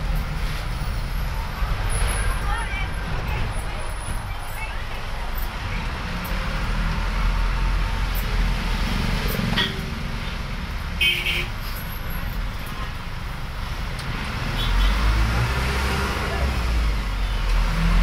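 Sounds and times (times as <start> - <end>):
diesel engine driving: 0.0 - 18.0
road noise: 0.0 - 18.0.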